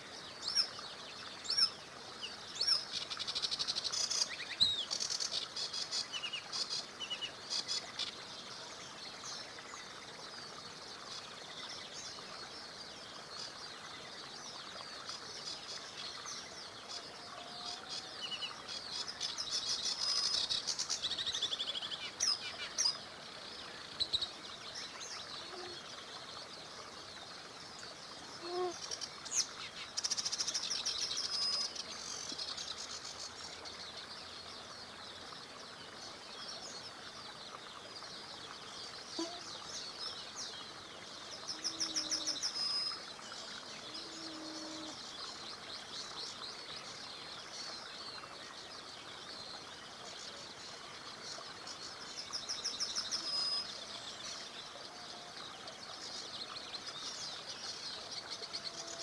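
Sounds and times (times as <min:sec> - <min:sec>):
flowing river water: 0:00.0 - 0:59.0
songbirds singing: 0:00.0 - 0:59.0.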